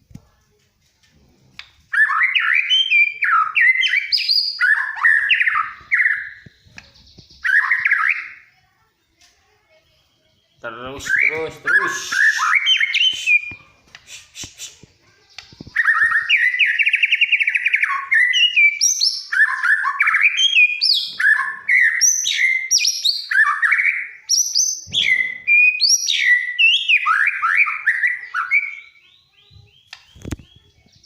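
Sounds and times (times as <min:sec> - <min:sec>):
songbird whistling and trilling: 0:01.9 - 0:08.5, 0:10.4 - 0:31.0.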